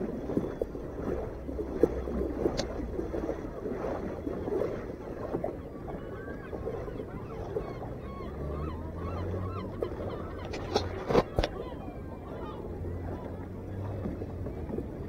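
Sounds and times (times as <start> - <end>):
gulls calling: 0.0 - 15.0
wind and water wash: 0.0 - 15.0.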